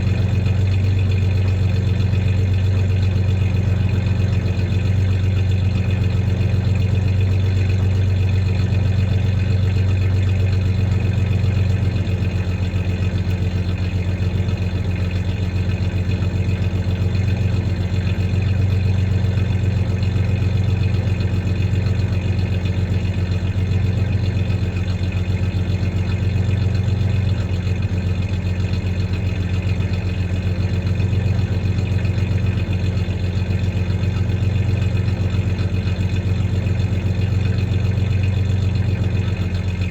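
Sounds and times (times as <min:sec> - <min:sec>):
truck engine idling with misfire: 0:00.0 - 0:39.9.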